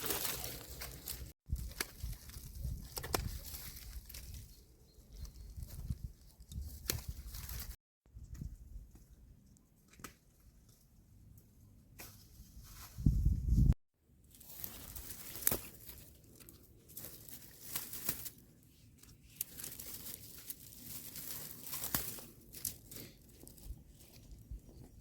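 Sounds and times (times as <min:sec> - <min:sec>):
vegetation rustling: 0:00.0 - 0:07.8, 0:12.0 - 0:24.6.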